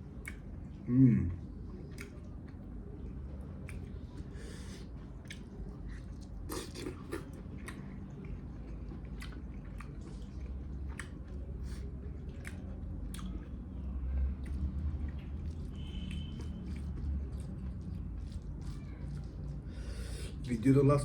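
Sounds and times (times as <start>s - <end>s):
chewing with wet mouth sounds: 0.0s - 21.0s.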